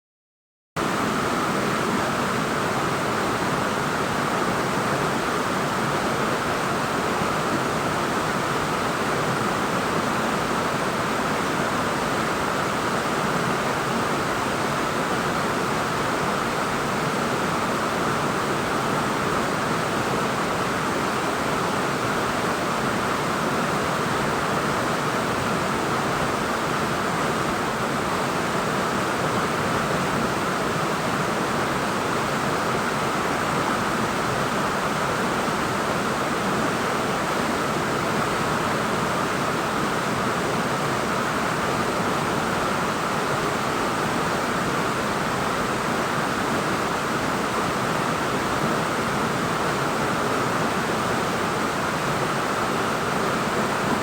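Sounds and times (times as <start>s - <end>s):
waterfall rushing: 0.8s - 54.0s.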